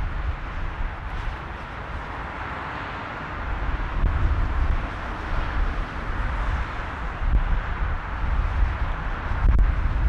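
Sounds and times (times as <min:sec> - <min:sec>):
distant turboprop plane climbing: 0:00.0 - 0:10.0
wind buffeting microphone: 0:00.0 - 0:10.0.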